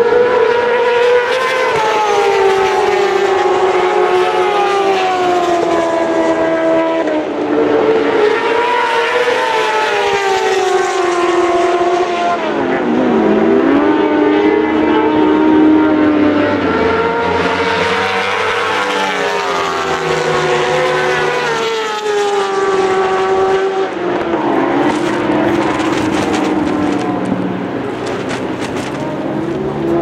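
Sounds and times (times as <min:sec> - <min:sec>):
racing motorcycle engines: 0:00.0 - 0:30.0.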